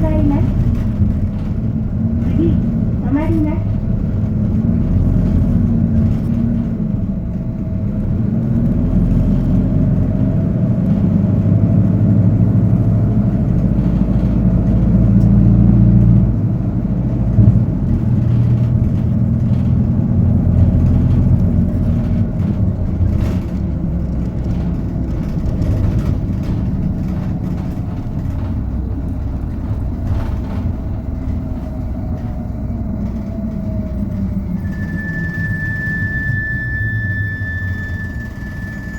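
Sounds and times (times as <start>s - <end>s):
bus diesel engine: 0.0s - 38.9s
road noise: 0.0s - 38.9s.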